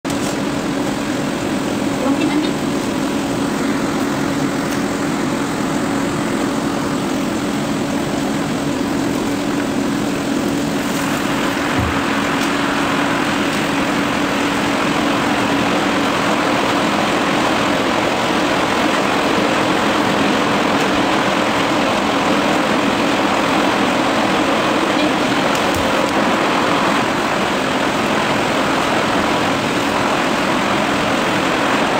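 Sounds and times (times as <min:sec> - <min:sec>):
continuous drone with low hum: 0:00.1 - 0:31.9.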